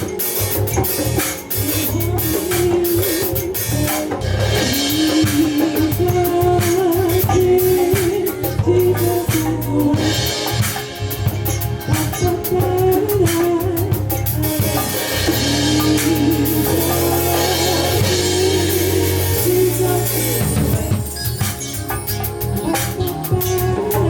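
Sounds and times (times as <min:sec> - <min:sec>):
drum kit: 0:00.0 - 0:24.0
held bass notes: 0:00.0 - 0:24.0
person singing: 0:00.0 - 0:24.0.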